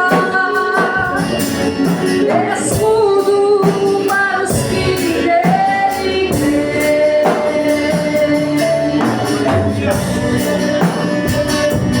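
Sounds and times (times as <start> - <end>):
band playing: 0.0 - 12.0
person singing gospel: 0.0 - 12.0.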